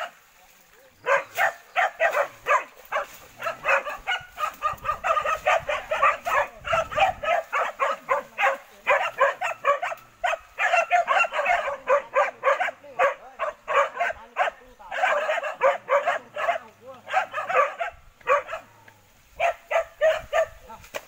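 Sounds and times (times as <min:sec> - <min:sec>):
dogs barking rapidly: 0:01.0 - 0:18.8, 0:19.4 - 0:20.7.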